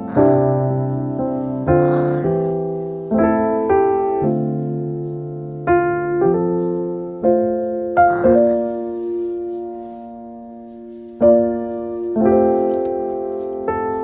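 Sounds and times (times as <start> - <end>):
slow solo piano chords: 0.0 - 14.0.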